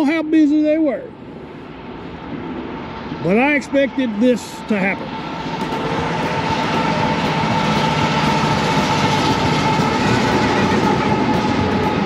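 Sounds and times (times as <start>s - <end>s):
freight train passing: 0.0s - 12.0s
high whine: 0.0s - 12.0s.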